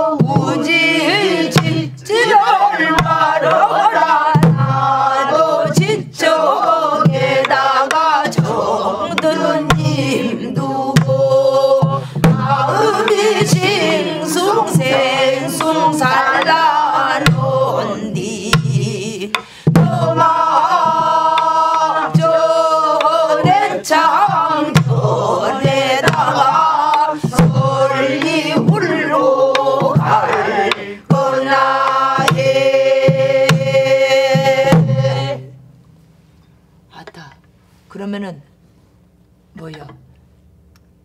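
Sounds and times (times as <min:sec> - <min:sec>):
group singing folk song: 0:00.0 - 0:35.6
barrel drum strokes: 0:00.0 - 0:36.4.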